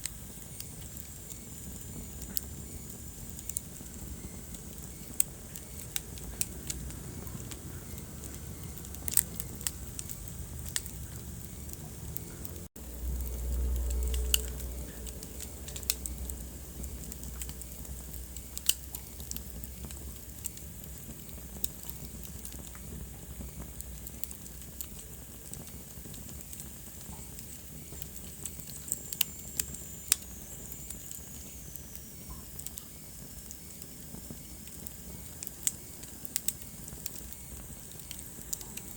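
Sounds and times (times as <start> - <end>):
low rumble of burning logs: 0.0 - 38.9
wood fire crackling: 0.0 - 38.9.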